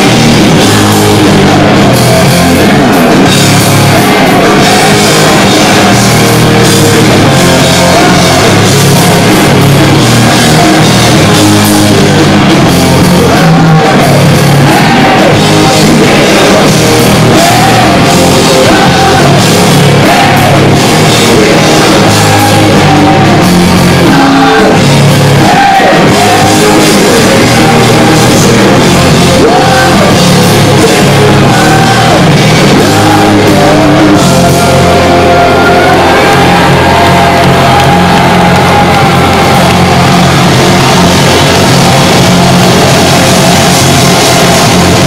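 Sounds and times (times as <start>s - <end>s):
man singing: 0.0s - 36.8s
rock band playing: 0.0s - 45.0s.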